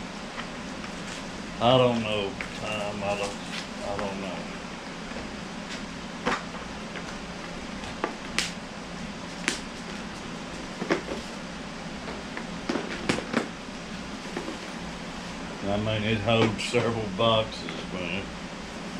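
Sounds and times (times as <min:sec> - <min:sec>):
steady background hum: 0:00.0 - 0:18.9.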